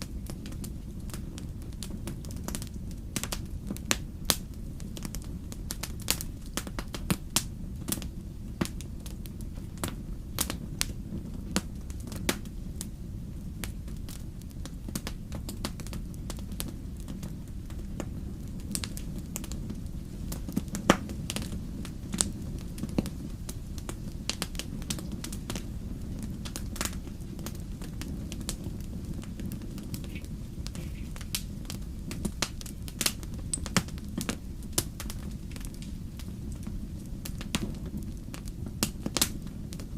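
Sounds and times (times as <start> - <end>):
fire popping and snapping: 0.0 - 39.9
low rumble of flames: 0.0 - 39.9
wood fire crackling: 0.0 - 39.9.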